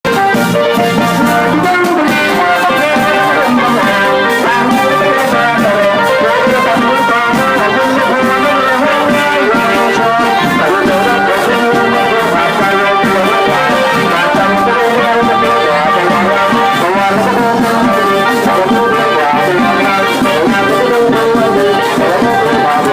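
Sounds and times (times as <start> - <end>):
brass horns playing: 0.1 - 22.9
steady drum beat: 0.1 - 22.9.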